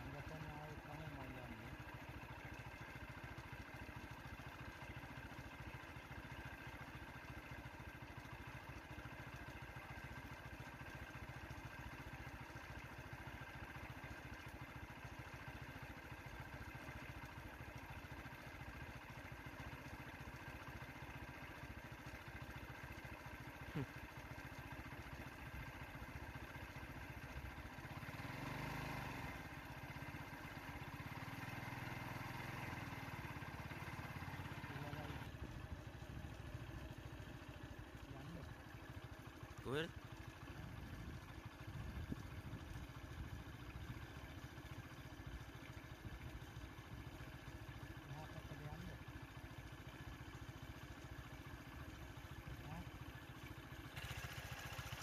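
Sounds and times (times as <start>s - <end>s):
motorcycle engine approaching: 0.0s - 55.0s
vehicle engine idling: 0.0s - 55.0s.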